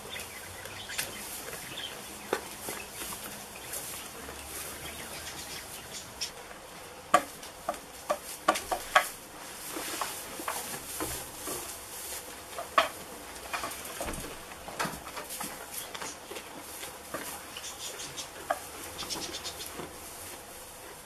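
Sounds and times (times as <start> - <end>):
goats rustling in straw: 0.0 - 21.0.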